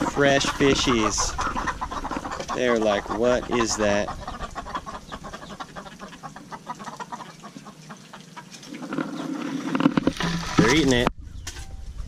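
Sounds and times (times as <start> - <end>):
chickens pecking: 0.0 - 11.1
chickens clucking: 0.0 - 11.5.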